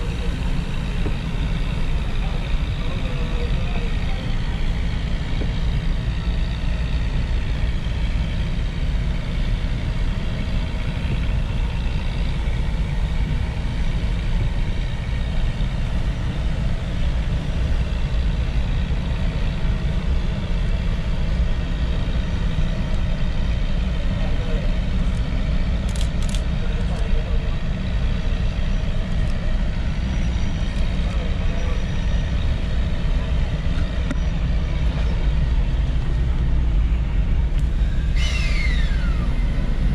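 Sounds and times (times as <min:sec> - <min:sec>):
steam locomotive rumbling: 0:00.0 - 0:39.9.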